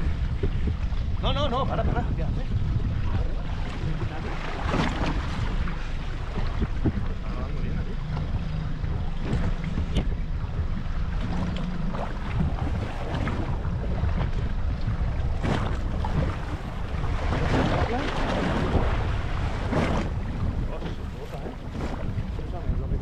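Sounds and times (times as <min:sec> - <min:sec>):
waves splashing against boat hull: 0:00.0 - 0:23.0
wind buffeting microphone: 0:00.0 - 0:23.0.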